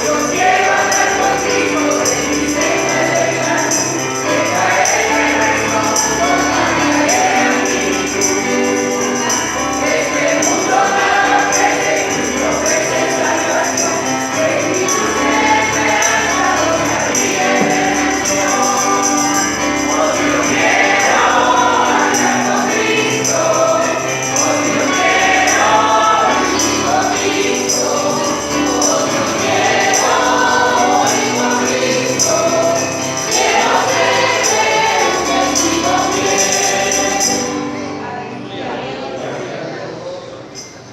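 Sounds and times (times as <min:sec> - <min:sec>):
tambourine shaking: 0:00.0 - 0:37.7, 0:40.5 - 0:40.9
group singing a hymn: 0:00.0 - 0:40.7.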